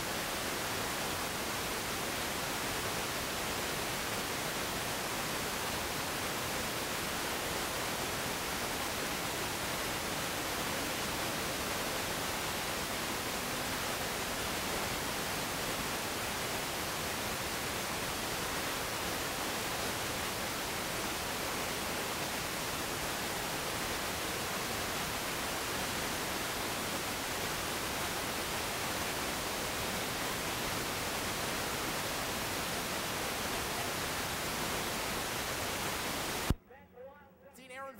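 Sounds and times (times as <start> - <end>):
static hiss: 0.0 - 36.6.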